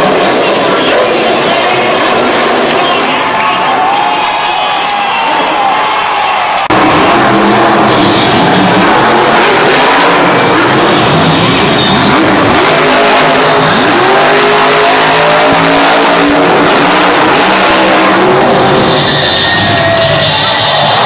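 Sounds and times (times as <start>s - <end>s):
truck engine revving hard: 0.0s - 3.4s, 6.6s - 21.0s.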